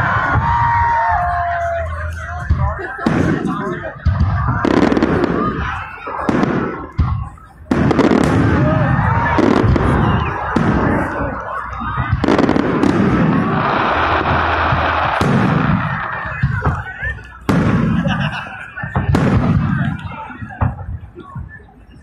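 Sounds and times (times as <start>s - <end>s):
fireworks bursting with sharp bangs: 0.0s - 21.6s.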